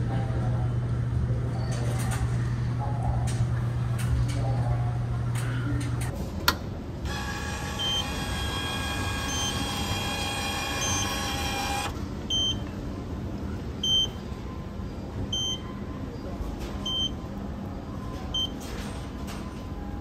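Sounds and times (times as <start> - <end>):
vending machine whine: 0.0 - 20.0.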